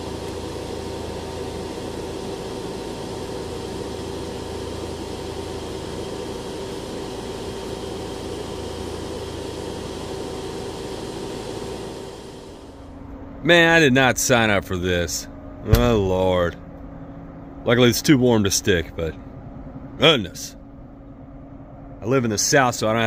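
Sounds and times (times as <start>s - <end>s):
industrial dryer machine hum: 0.0s - 23.0s.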